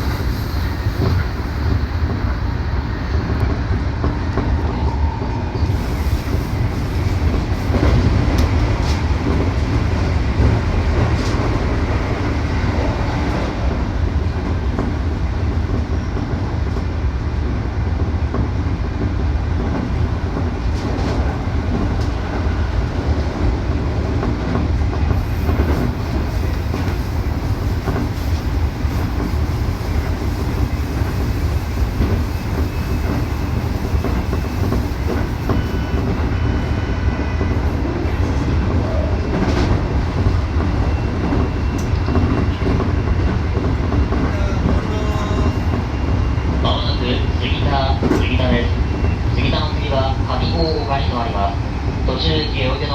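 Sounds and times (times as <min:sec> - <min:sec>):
train wheels rumbling: 0:00.0 - 0:52.9.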